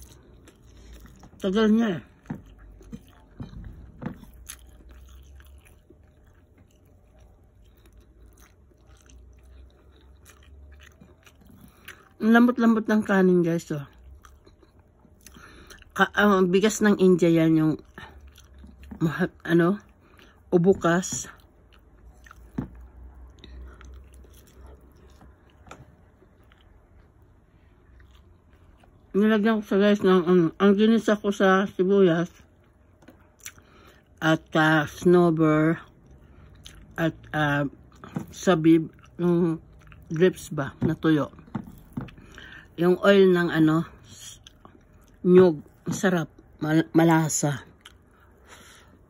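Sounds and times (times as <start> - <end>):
person chewing food: 0.0 - 12.3, 13.6 - 16.0, 16.6 - 29.2, 32.3 - 35.0, 35.6 - 46.6, 47.6 - 49.0.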